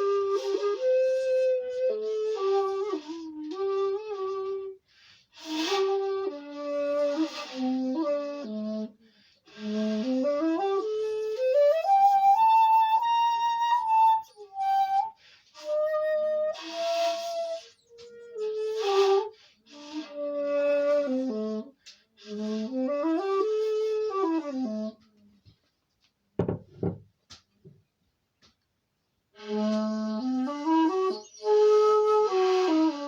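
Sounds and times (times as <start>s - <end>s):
bamboo flute melody: 0.0s - 25.7s, 29.3s - 33.0s.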